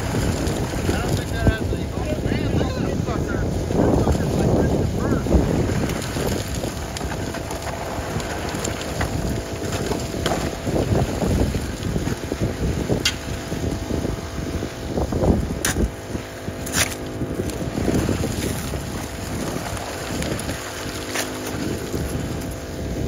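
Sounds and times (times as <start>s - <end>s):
water pump engine running: 0.0s - 23.0s.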